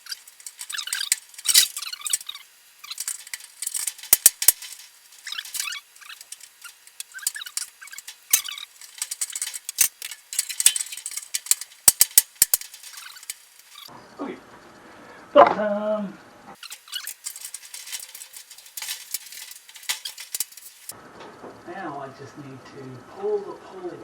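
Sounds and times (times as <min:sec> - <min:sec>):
squeaky scraping of parts: 0:00.0 - 0:21.6.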